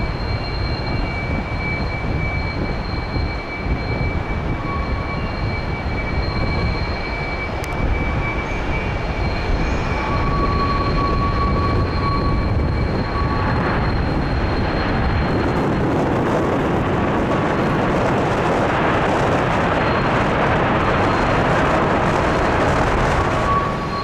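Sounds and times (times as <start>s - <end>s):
high jet engine whine: 0.0s - 24.0s
jet engine roar: 0.0s - 24.0s.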